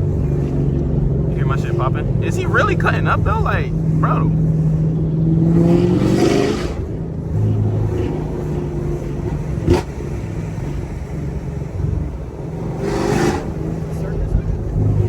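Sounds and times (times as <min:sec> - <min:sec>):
car engine cruising: 0:00.0 - 0:15.0.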